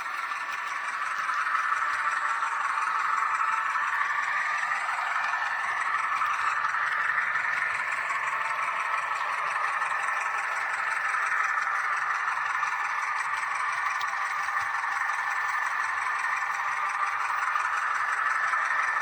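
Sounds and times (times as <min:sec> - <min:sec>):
model train motor whirring: 0:00.0 - 0:19.0
wheels rattling over rails: 0:00.0 - 0:19.0.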